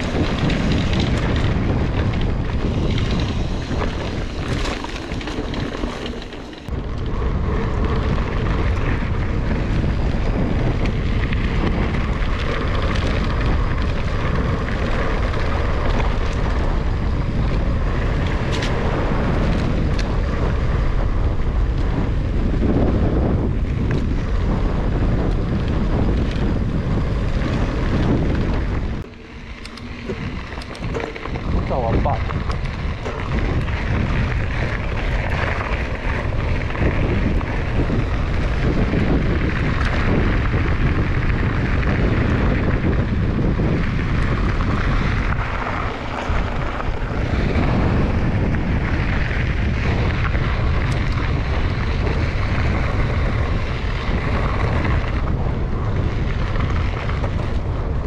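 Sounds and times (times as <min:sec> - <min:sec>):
mountain bike rattling on dirt: 0:00.0 - 0:58.0
wind buffeting microphone: 0:00.0 - 0:58.0.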